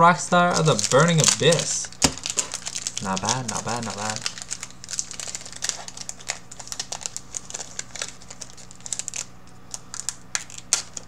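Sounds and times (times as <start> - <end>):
foil wrapper crinkling: 0.2 - 11.0.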